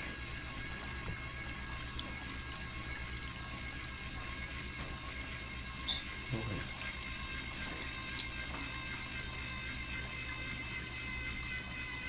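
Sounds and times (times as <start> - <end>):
washing machine spin motor humming: 0.0 - 12.0.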